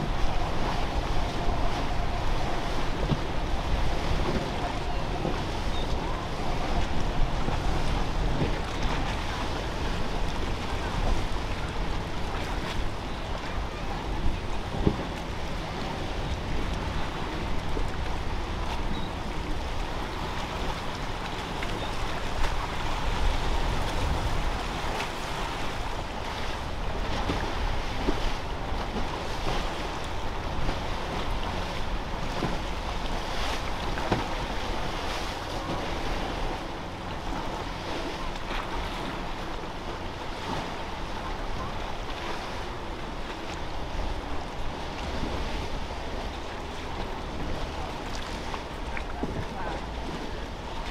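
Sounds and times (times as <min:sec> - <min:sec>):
boat engines droning: 0:00.0 - 0:50.9
surf and breaking waves: 0:00.0 - 0:50.9
wind buffeting microphone: 0:00.0 - 0:50.9.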